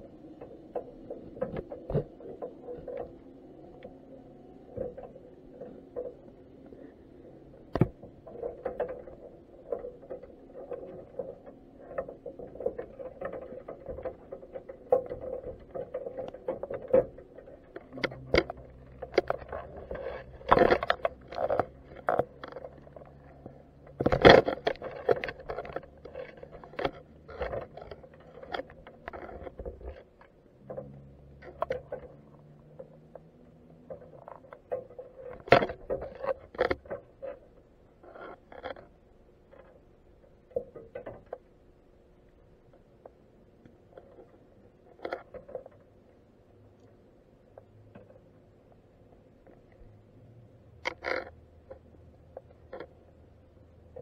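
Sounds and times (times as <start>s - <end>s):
underwater clicks and crackles: 0.0s - 54.0s.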